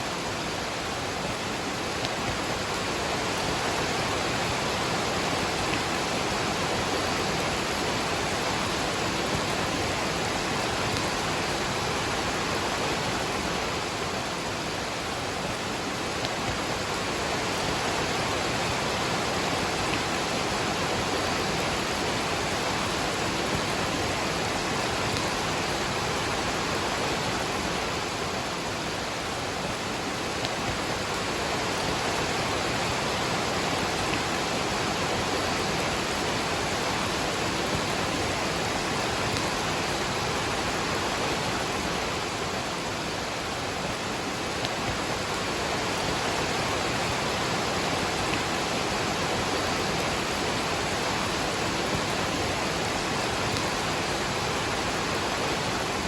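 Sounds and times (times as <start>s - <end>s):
rain falling: 0.0s - 56.0s
waterfall rushing: 0.0s - 56.0s.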